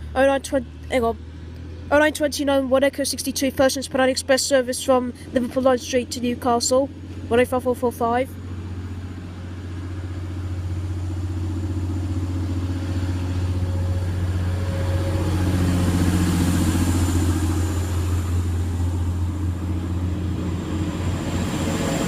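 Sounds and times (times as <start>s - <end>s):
diesel train engines accelerating: 0.0s - 22.0s.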